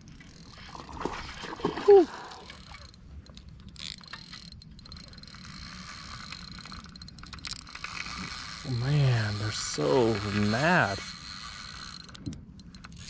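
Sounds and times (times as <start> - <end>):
fishing reel clicking: 0.0 - 0.8, 2.3 - 13.0.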